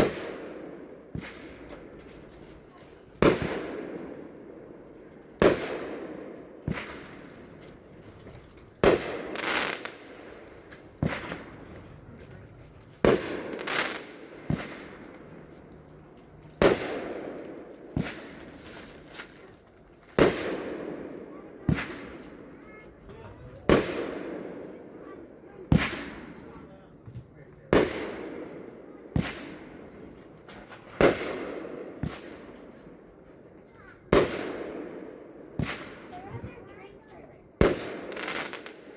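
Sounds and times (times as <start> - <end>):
firework bangs with crackle: 0.0 - 12.1, 12.8 - 15.5, 16.5 - 27.1, 27.7 - 38.9.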